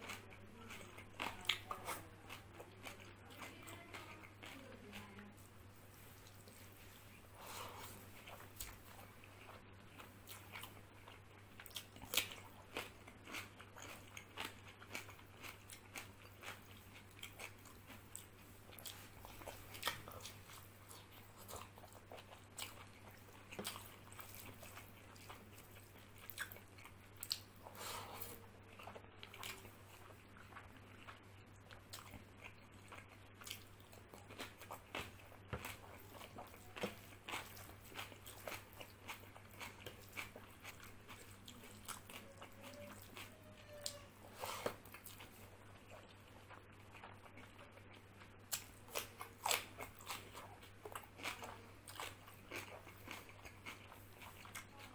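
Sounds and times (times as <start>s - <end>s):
chewing and crunching: 0.0s - 54.9s.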